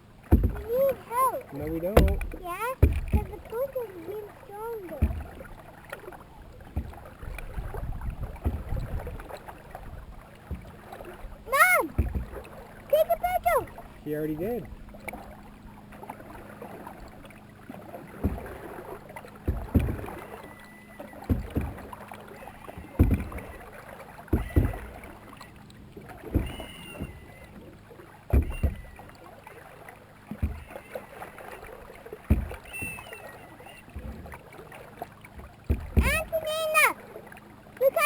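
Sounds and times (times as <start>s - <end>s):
paddle splashing through water: 0.0s - 38.0s.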